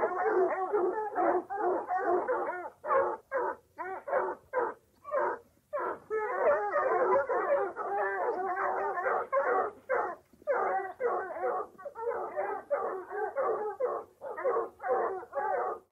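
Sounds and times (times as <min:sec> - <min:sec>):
dogs yelping and baying: 0:00.0 - 0:15.9.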